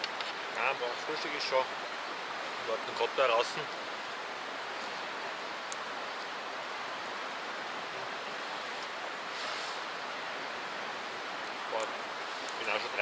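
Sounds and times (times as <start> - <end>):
flowing stream: 0.0 - 13.0.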